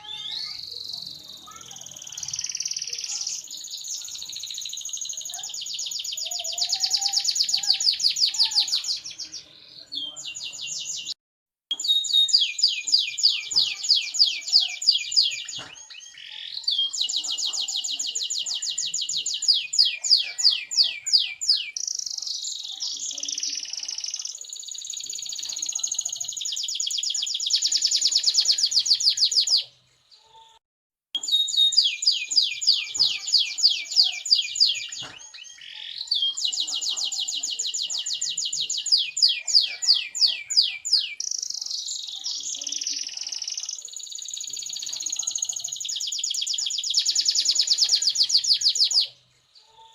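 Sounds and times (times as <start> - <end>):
canary singing trills: 0.0 - 30.6, 31.2 - 49.9.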